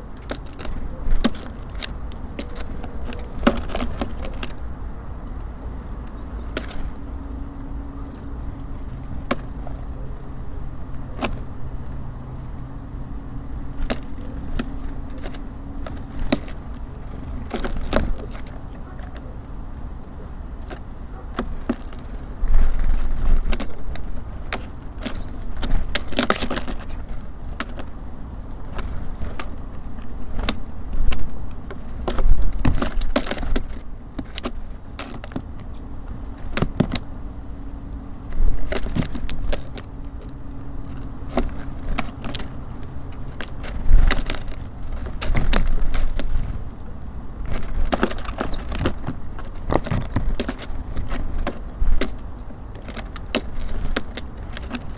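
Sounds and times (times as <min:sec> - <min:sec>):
birds pecking and tapping: 0:00.0 - 0:54.9
low rumble of city traffic: 0:00.0 - 0:54.9.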